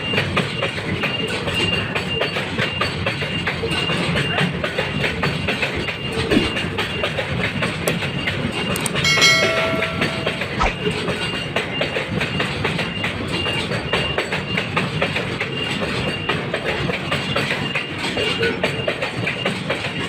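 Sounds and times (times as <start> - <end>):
train wheels clattering: 0.0 - 10.8, 11.6 - 20.0.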